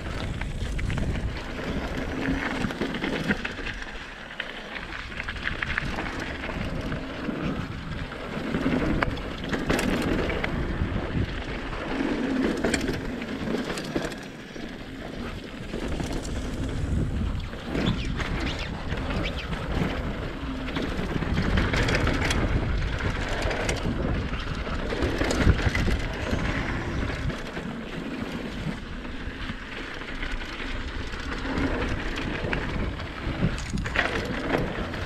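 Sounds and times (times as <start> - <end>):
bike clicks and rattles: 0.0 - 35.0
bike tyres rolling on dirt: 0.0 - 35.0.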